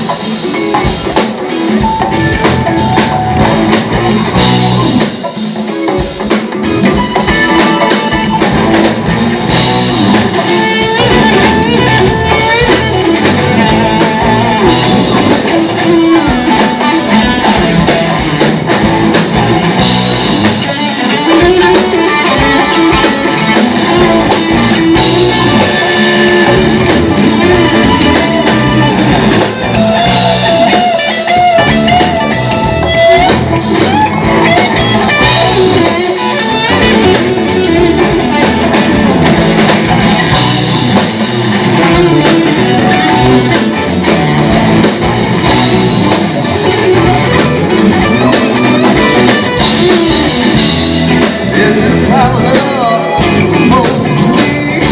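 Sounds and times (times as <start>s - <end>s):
drum kit: 0.0s - 54.9s
electric guitar: 0.0s - 54.9s
live rock band: 0.0s - 54.9s.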